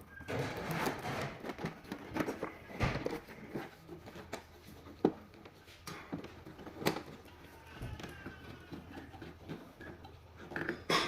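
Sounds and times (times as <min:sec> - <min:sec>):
objects being handled: 0:00.0 - 0:11.0.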